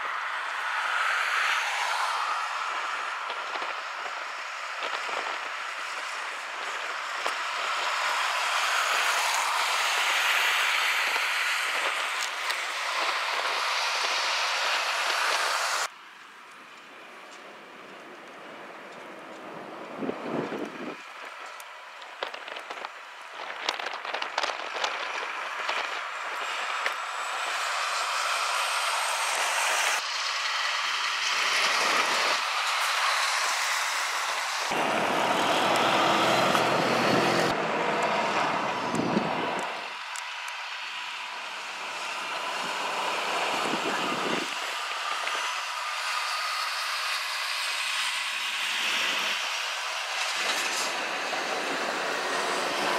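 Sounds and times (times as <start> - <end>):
truck road and tyre noise: 0.0 - 52.9.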